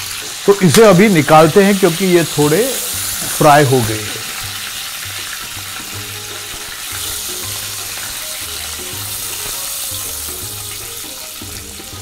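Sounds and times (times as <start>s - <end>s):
prawns sizzling in oil: 0.0s - 12.0s.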